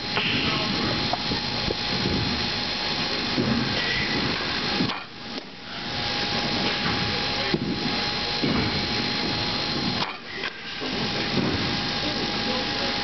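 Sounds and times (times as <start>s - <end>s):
machine whirring: 0.0s - 13.0s.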